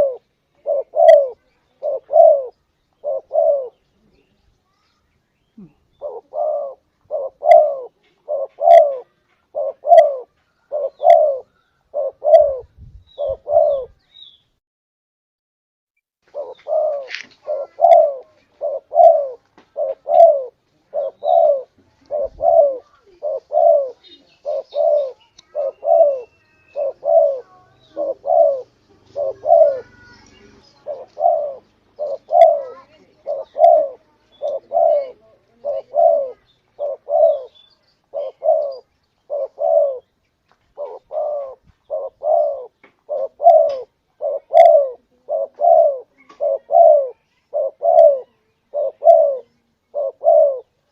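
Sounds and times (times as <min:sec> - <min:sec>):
dove cooing: 0:00.0 - 0:04.2, 0:05.6 - 0:14.0, 0:16.3 - 0:40.1, 0:40.7 - 0:50.9.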